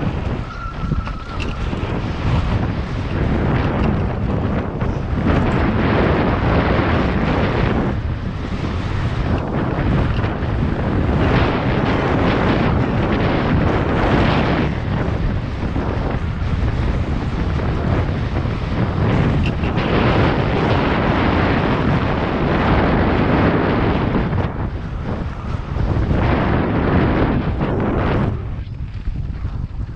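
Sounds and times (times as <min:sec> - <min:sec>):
bike tyres rolling on dirt: 0:00.0 - 0:29.9
wind on microphone: 0:00.0 - 0:29.9.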